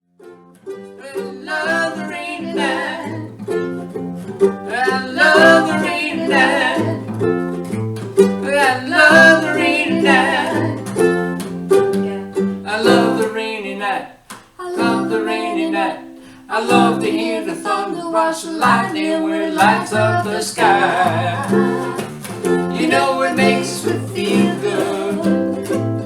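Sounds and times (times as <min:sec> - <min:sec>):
ukulele strumming: 0:00.1 - 0:26.0
person singing: 0:00.7 - 0:07.5, 0:08.2 - 0:26.0.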